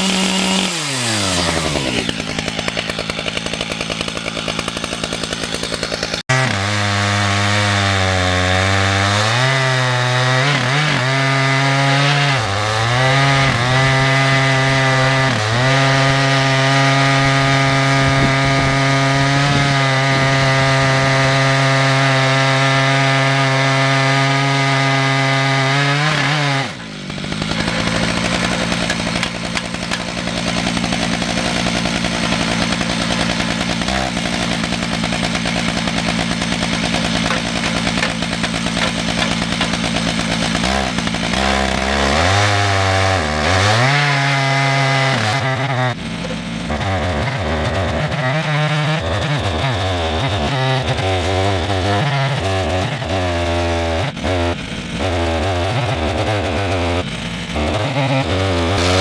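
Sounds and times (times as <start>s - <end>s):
chainsaw ripping a log: 0.0s - 59.0s.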